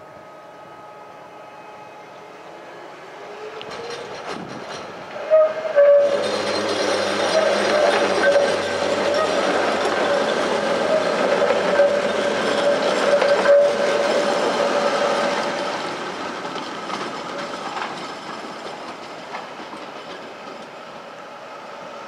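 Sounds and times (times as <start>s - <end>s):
tram wheels running over rails: 3.1s - 22.0s.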